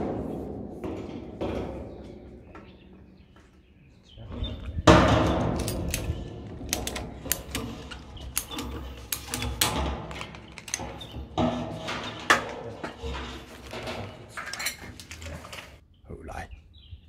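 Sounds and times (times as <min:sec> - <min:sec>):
plastic pipes knocking and scraping: 0:00.0 - 0:03.6, 0:04.2 - 0:15.8.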